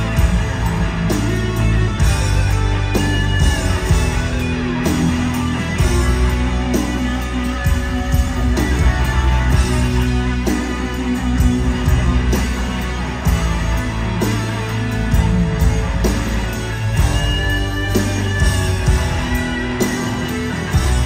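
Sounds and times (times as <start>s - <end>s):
electric guitar lead with bent notes: 0.0s - 21.0s
live rock band playing: 0.0s - 21.0s.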